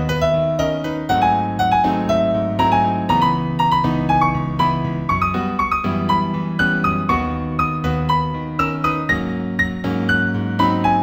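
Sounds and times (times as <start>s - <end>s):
gentle piano piece: 0.0s - 11.0s.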